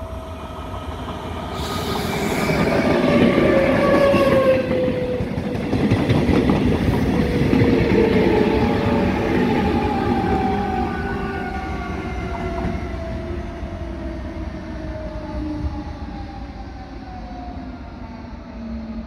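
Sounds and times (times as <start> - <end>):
electric train whine: 0.0 - 19.0.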